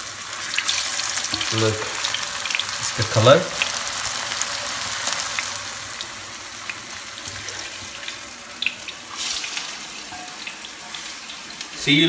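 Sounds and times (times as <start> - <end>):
oil crackling and popping: 0.0 - 11.8
patties sizzling in hot oil: 0.0 - 12.0.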